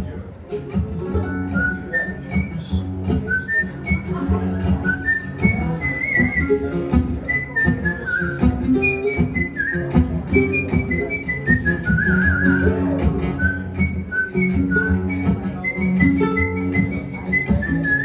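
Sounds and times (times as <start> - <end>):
strummed acoustic guitar: 0.0 - 18.0
person whistling a melody: 1.2 - 18.0.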